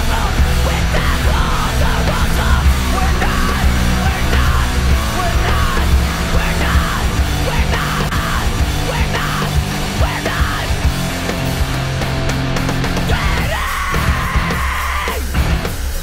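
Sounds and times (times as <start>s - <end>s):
heavy rock music: 0.0s - 16.0s.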